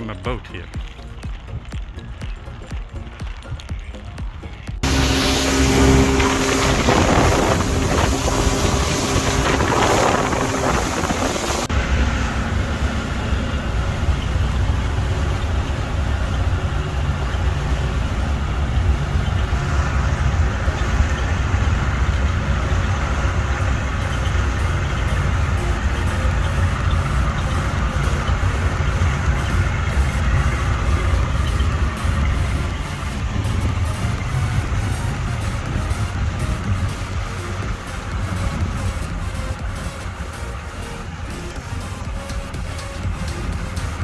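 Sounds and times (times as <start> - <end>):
vehicle engine running: 0.0 - 44.0
wind buffeting microphone: 4.8 - 44.0.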